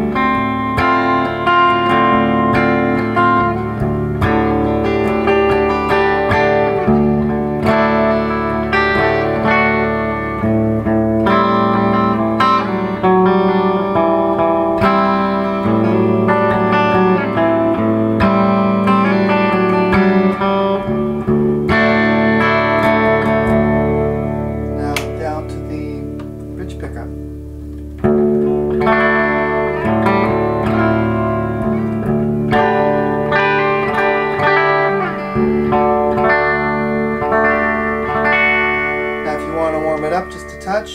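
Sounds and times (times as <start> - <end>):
electric guitar chords strummed: 0.0 - 40.9.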